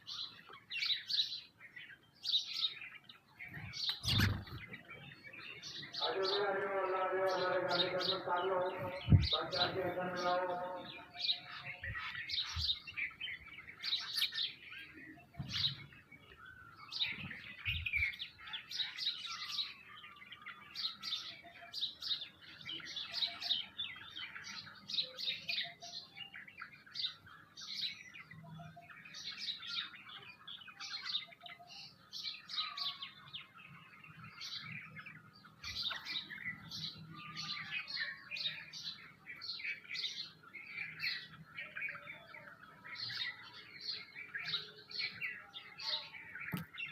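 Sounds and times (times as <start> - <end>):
flock of small birds chirping: 0.0 - 46.9.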